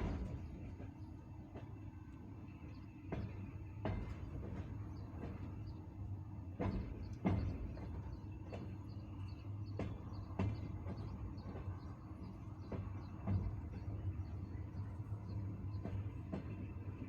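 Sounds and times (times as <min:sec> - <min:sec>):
low rumble of moving train car: 0:00.0 - 0:17.0
train wheels clacking over rail joints: 0:00.0 - 0:17.0.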